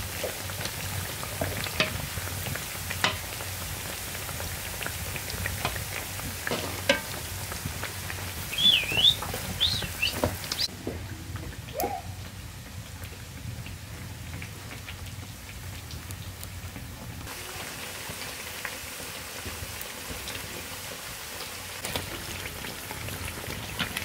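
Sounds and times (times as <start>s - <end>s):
oil sizzling in a pan: 0.0s - 10.7s, 11.4s - 24.0s.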